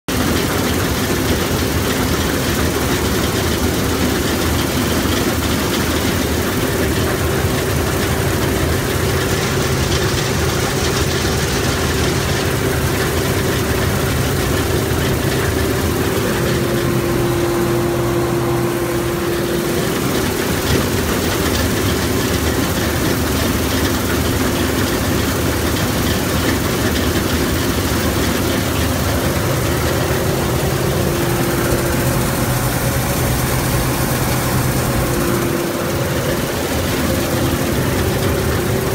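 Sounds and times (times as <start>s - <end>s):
combine harvester running: 0.1s - 38.9s.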